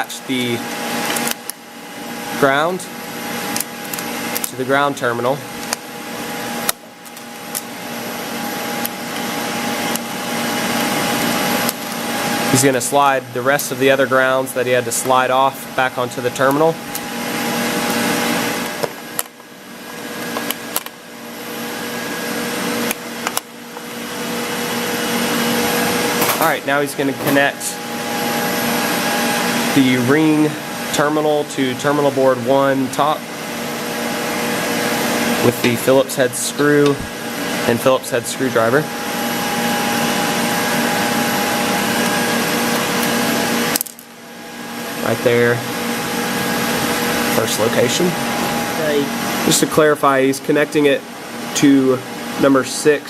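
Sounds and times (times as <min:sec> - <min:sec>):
rushing machine hum: 0:00.0 - 0:50.0
loud ventilation noise: 0:00.0 - 0:53.0.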